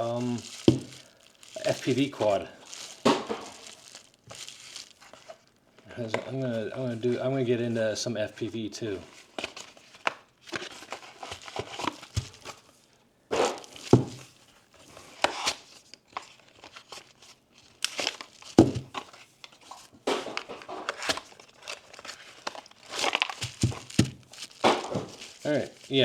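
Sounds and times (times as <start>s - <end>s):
plastic packaging crinkling and tearing: 0.0s - 7.5s, 8.9s - 26.0s.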